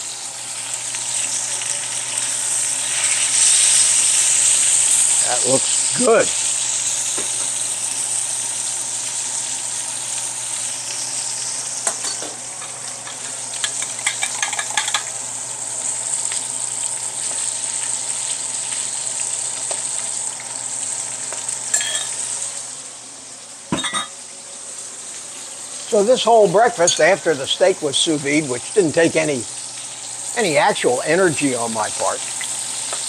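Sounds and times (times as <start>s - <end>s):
steak sizzling in a skillet: 0.0s - 33.0s.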